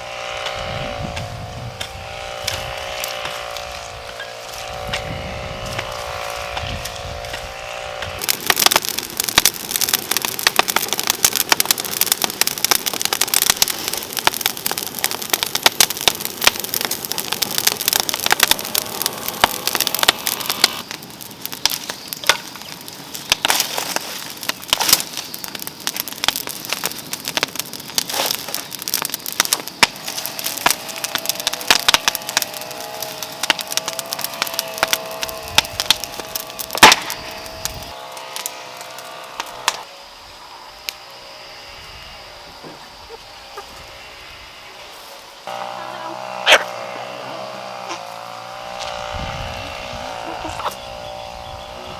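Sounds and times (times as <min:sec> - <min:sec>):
crackling and snapping: 0:00.2 - 0:39.9, 0:45.5 - 0:51.8.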